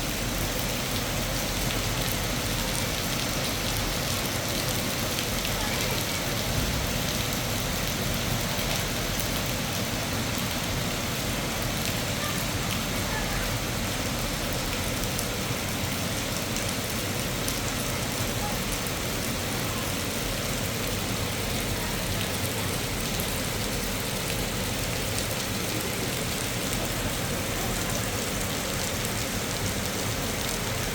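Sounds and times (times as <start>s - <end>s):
heavy rain hiss: 0.0s - 30.9s
raindrops ticking on surfaces: 0.0s - 30.9s.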